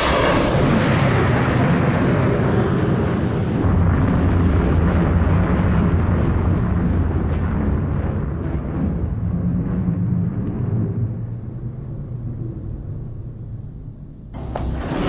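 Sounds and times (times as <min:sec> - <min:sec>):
jet engine roar: 0:00.0 - 0:13.4, 0:14.4 - 0:15.0.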